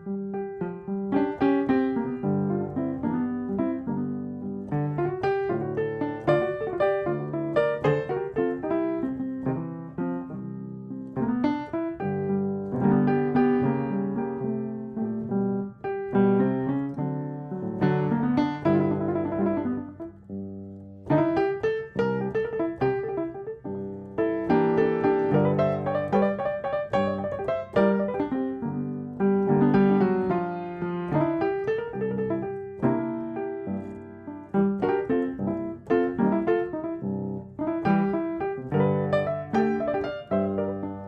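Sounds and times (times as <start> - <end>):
solo piano music: 0.0 - 41.0.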